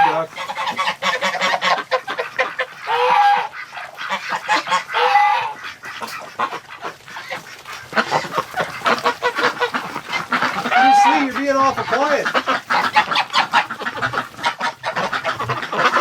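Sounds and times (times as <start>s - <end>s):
ducks quacking: 0.0s - 16.0s
geese honking: 0.0s - 16.0s.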